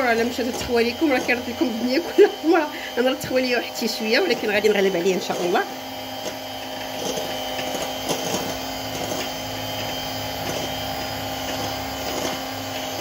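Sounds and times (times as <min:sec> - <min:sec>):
electric mixer whisking batter: 0:00.0 - 0:13.0.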